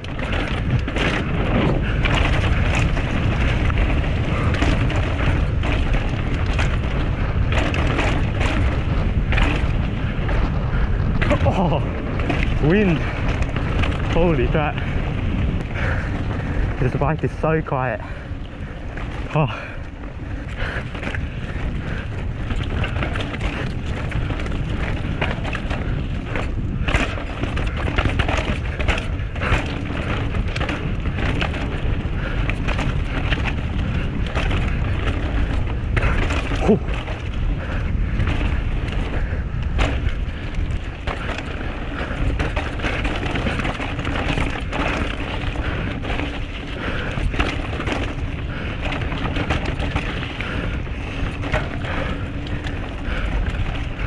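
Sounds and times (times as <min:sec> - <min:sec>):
bike knocking and rattling: 0:00.0 - 0:54.0
tyres crunching over dirt: 0:00.0 - 0:54.0
wind rumble on microphone: 0:00.0 - 0:54.0.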